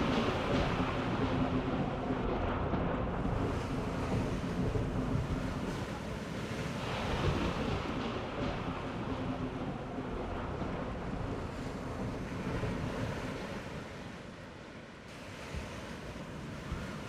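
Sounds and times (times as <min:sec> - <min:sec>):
waves rushing: 0:00.0 - 0:17.0
wind: 0:00.0 - 0:17.0.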